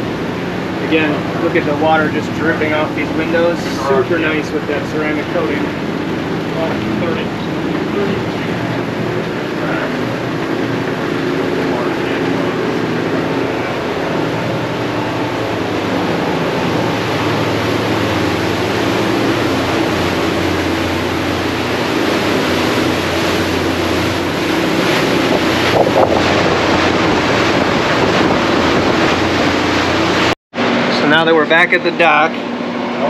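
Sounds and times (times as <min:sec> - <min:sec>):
wind buffeting microphone: 0:00.0 - 0:30.8
water rushing and spraying: 0:00.0 - 0:32.6
diesel engines droning: 0:00.0 - 0:33.0.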